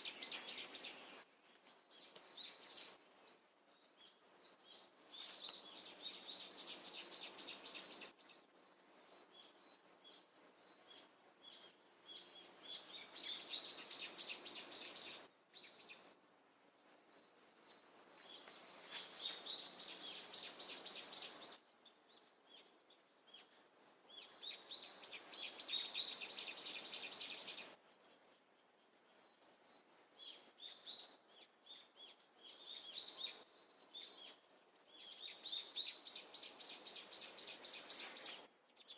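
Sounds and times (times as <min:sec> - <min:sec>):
faint bird chirps: 0:00.0 - 0:38.9.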